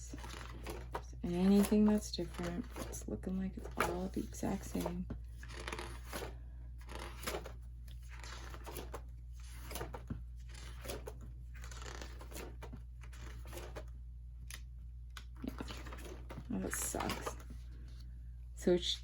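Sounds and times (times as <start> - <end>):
steady low hum: 0.0 - 19.0
pages turning: 0.1 - 3.0, 3.6 - 18.1.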